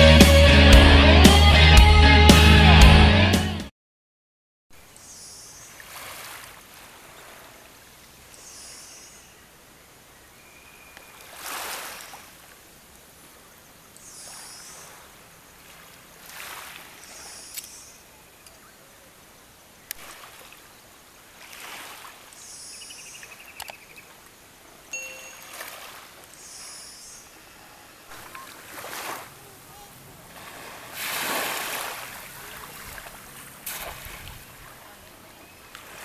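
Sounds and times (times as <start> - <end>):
waves lapping on shore: 5.0 - 36.0.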